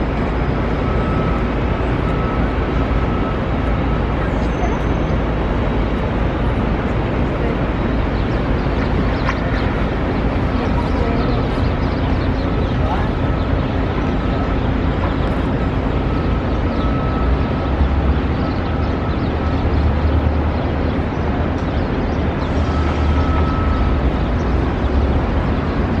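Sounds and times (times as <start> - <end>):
steady traffic noise: 0.0 - 26.0.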